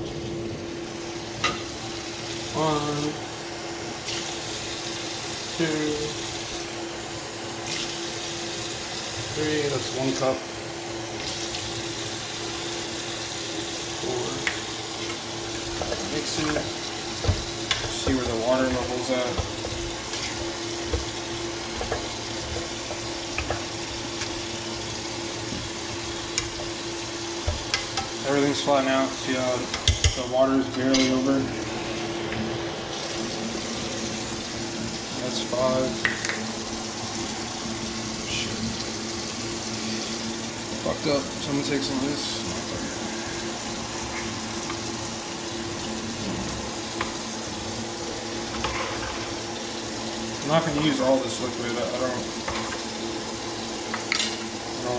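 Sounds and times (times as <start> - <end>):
kitchen hiss: 0.9 - 3.4, 4.0 - 6.8, 11.1 - 32.1, 32.9 - 54.9.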